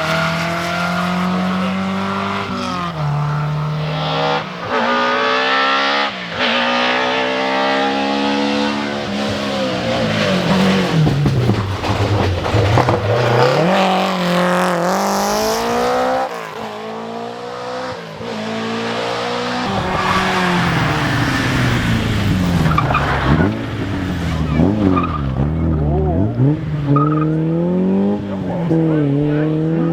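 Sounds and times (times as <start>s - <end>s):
rally car engine revving: 0.0s - 29.9s.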